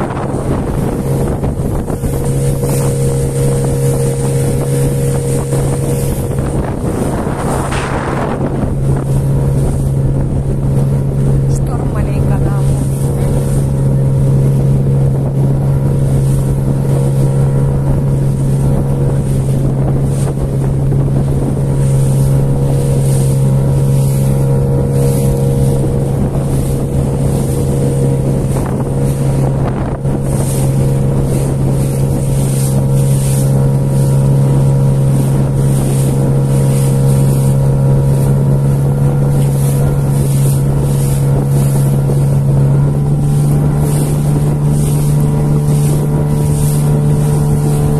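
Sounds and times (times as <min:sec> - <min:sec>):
outboard motor droning: 0:00.0 - 0:47.9
wind buffeting microphone: 0:00.0 - 0:47.9.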